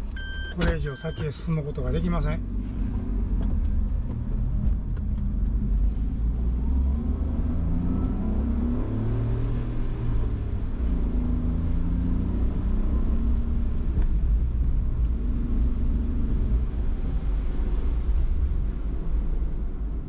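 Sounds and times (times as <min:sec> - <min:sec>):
car engine: 0:00.0 - 0:20.0
road rumble: 0:00.0 - 0:20.0.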